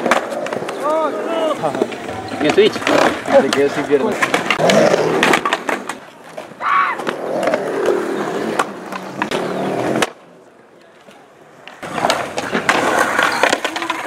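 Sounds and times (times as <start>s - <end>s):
skateboard clacking on ground: 0.0s - 14.0s
skateboard clattering on concrete: 0.0s - 14.0s
skateboard wheels rolling on concrete: 0.0s - 14.0s.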